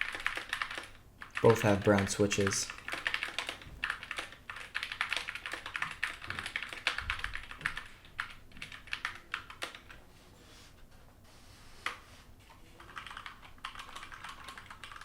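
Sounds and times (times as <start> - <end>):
mechanical keyboard typing: 0.0 - 10.0, 12.8 - 15.0.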